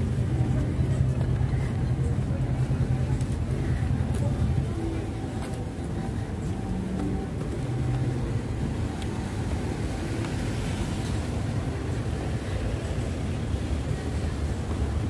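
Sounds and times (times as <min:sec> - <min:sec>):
car traffic rumble: 0:00.0 - 0:15.0.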